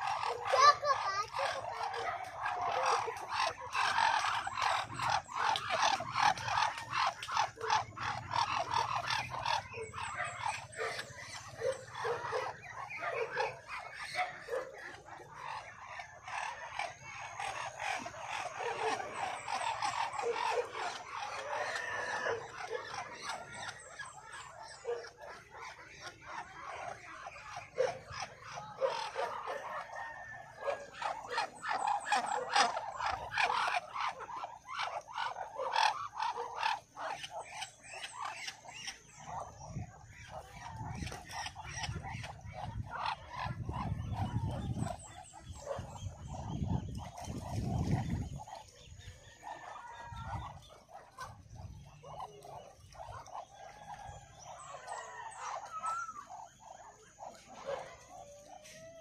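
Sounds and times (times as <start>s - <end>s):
ducks making low calls: 0.0s - 59.0s.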